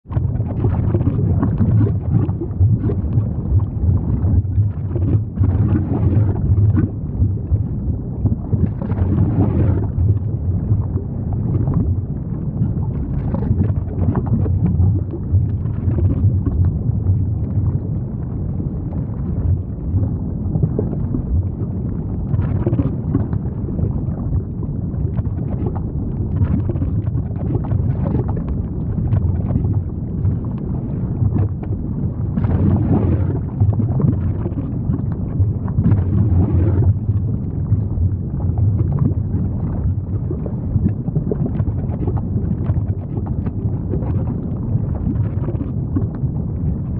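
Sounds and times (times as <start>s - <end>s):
deep rumble: 0.0s - 46.9s.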